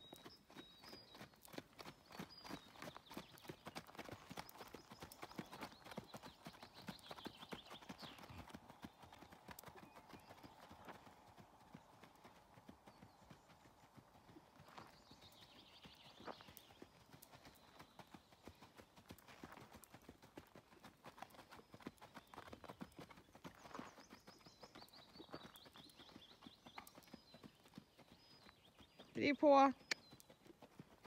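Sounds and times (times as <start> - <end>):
horse hooves on sand: 0.0 - 31.0.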